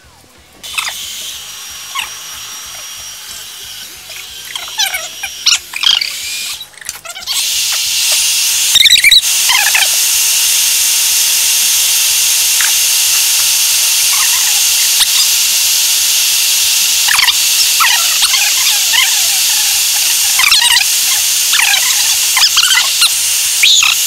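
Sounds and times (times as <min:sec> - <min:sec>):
spray paint can hissing: 0:00.6 - 0:24.0.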